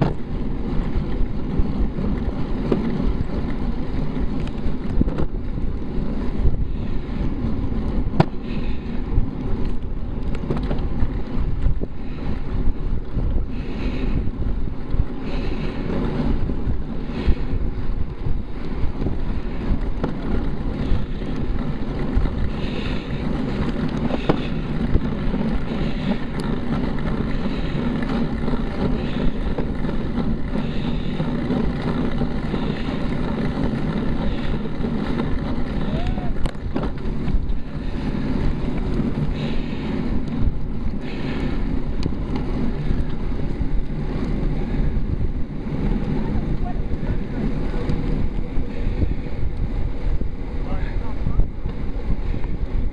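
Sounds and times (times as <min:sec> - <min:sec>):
wind rush on microphone: 0:00.0 - 0:52.9.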